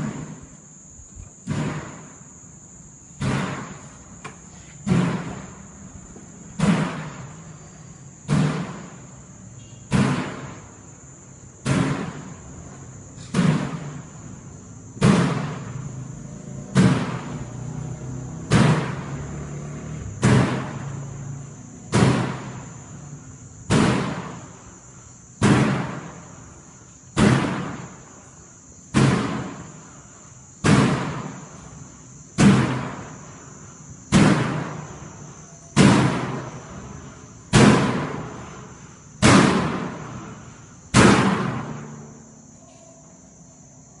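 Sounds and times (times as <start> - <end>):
loud echoing bangs: 0.0 - 0.5, 1.4 - 2.4, 3.1 - 4.2, 4.8 - 7.5, 8.2 - 11.0, 11.6 - 28.2, 28.9 - 33.5, 34.1 - 42.3.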